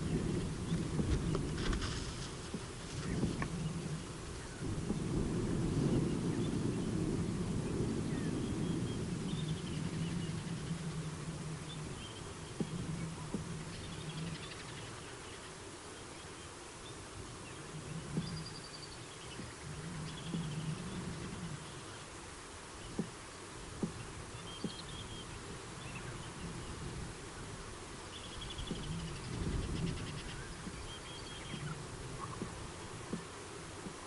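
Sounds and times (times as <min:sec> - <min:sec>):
low wind rumble: 0:00.0 - 0:34.0.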